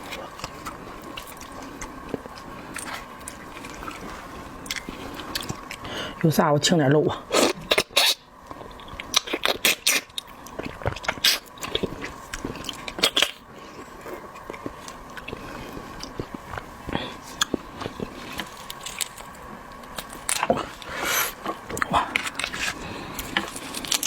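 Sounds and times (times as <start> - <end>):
chewing: 0.0 - 6.2, 7.4 - 24.0.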